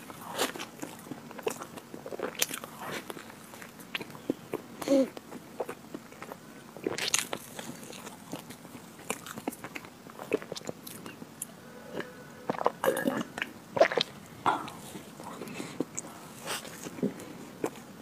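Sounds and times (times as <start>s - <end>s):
person chewing cake: 0.0s - 18.0s.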